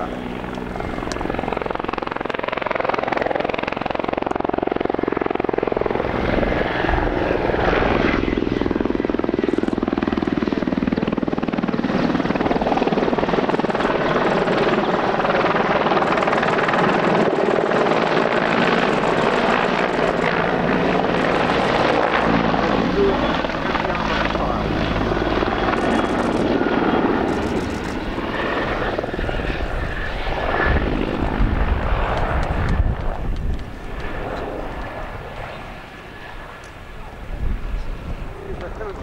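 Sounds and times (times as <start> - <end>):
helicopter engines and rotor: 0.0 - 39.0.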